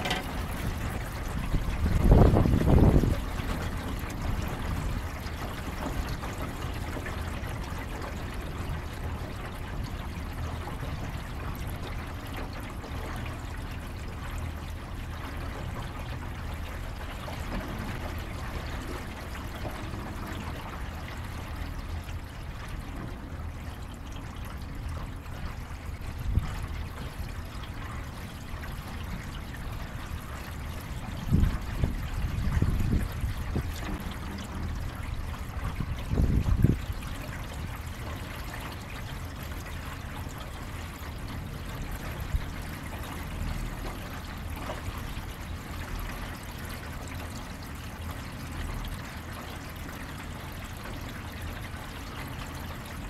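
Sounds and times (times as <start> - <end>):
steady low rumble: 0.0 - 50.2
water lapping against boat hull: 0.0 - 53.0.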